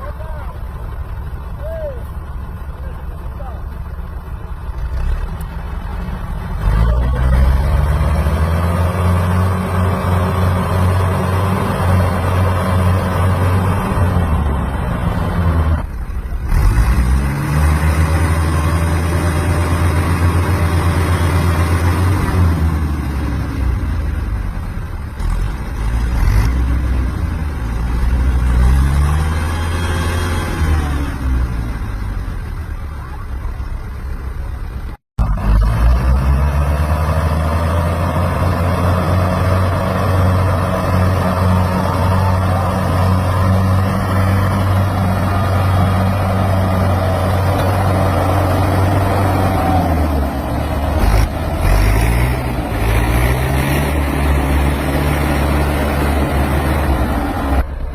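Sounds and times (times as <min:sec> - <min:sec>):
tractor diesel engine revving: 0:00.0 - 0:57.9.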